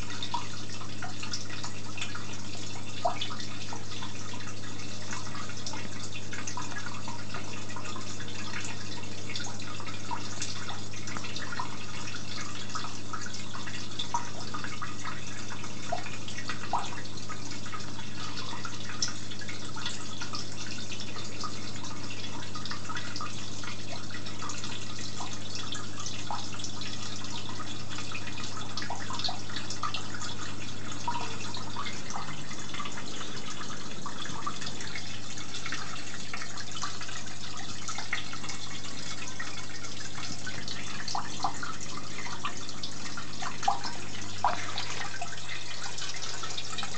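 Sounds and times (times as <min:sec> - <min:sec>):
aquarium water bubbling: 0:00.0 - 0:46.9.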